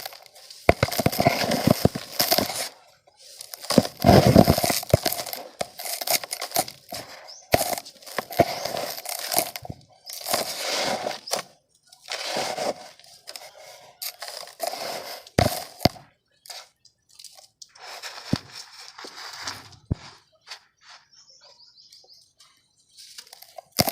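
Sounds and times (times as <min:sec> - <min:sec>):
dry mud crumbling: 0:00.0 - 0:20.2, 0:23.1 - 0:23.9.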